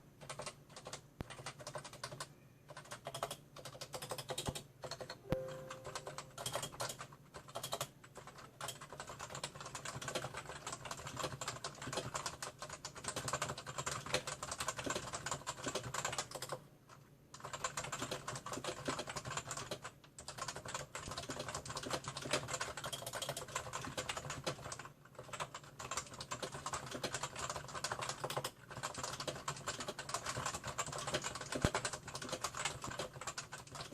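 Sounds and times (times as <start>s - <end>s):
fast keyboard typing: 0.2s - 33.9s.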